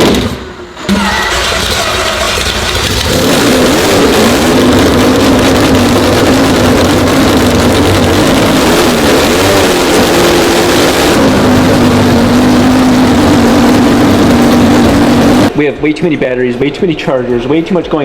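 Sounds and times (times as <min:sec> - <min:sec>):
rotary engine running: 0:00.9 - 0:15.5.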